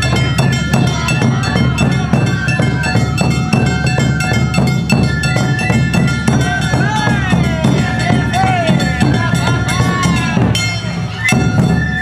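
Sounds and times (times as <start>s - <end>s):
bamboo flute melody: 0.0s - 12.0s
drums beating: 0.0s - 12.0s.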